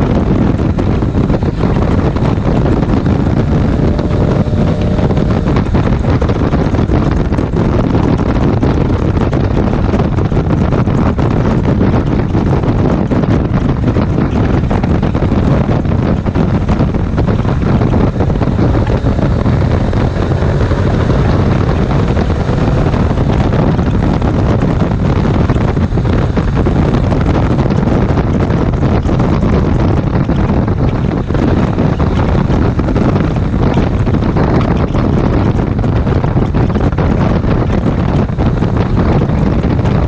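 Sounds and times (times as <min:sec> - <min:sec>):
motorcycle engine: 0:00.0 - 0:40.0
road noise: 0:00.0 - 0:40.0
wind buffeting microphone: 0:00.0 - 0:40.0.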